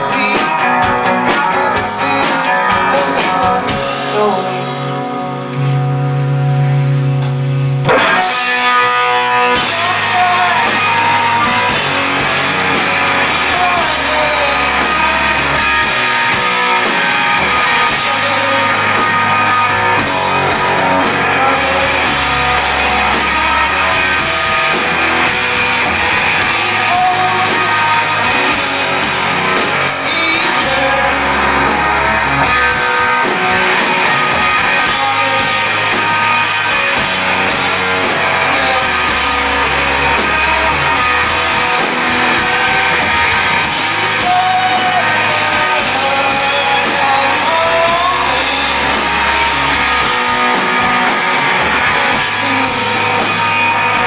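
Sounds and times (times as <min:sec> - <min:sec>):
drums: 0:00.0 - 0:54.0
electric guitar: 0:00.0 - 0:54.0
low bass notes: 0:00.0 - 0:54.0.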